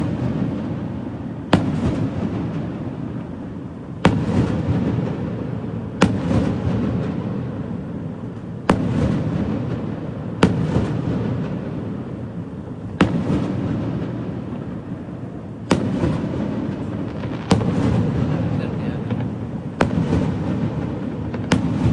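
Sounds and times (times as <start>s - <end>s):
fireworks bangs: 0.0s - 21.9s
rumbling echo: 0.0s - 21.9s.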